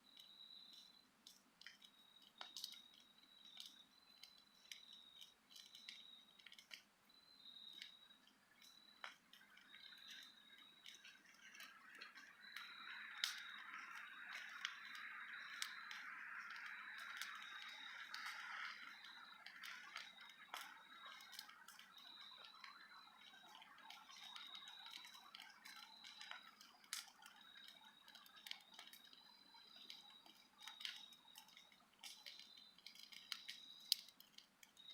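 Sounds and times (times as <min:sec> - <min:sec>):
wood crackling in fire: 0:00.0 - 0:34.9.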